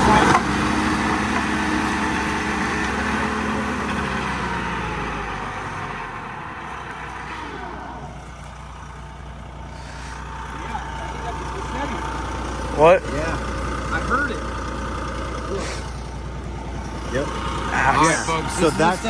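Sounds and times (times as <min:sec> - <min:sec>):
stump grinder engine running: 0:00.0 - 0:19.0.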